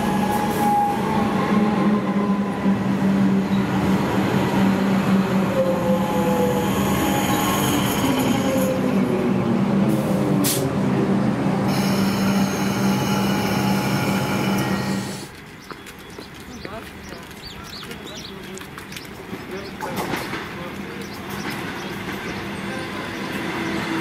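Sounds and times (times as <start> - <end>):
electric train passing with hum: 0.0 - 15.6, 20.3 - 24.0.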